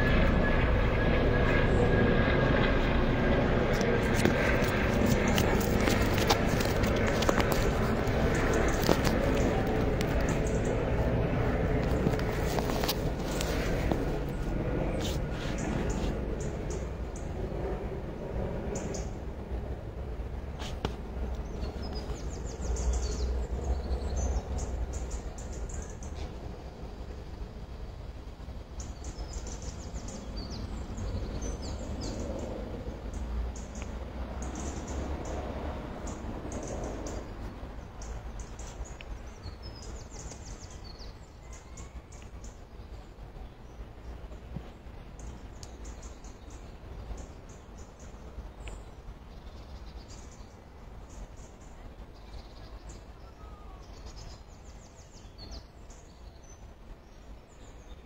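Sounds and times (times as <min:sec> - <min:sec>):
small birds chirping: 0:01.2 - 0:17.3, 0:20.6 - 0:27.5, 0:28.7 - 0:58.0.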